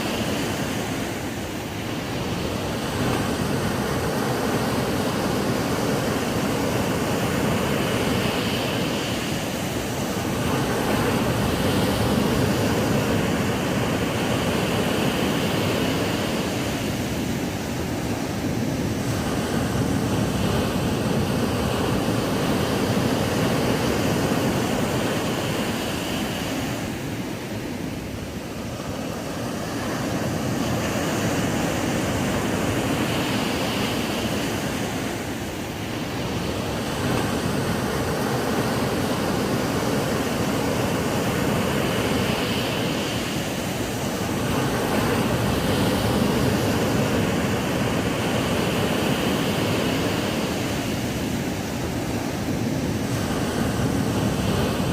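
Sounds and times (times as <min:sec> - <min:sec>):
ocean waves breaking on beach: 0:00.0 - 0:54.9.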